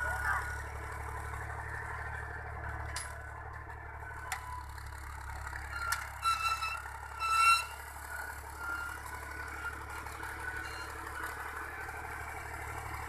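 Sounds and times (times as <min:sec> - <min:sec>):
tractor diesel engine humming: 0:00.0 - 0:13.0.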